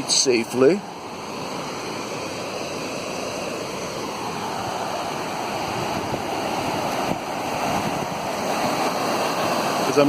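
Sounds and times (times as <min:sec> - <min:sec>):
mountain creek rushing: 0:00.0 - 0:10.0.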